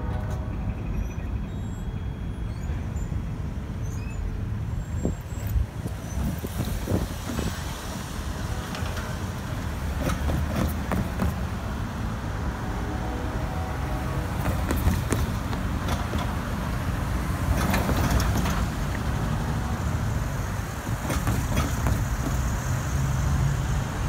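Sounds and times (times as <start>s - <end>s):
cars driving over tracks: 0.0s - 24.0s.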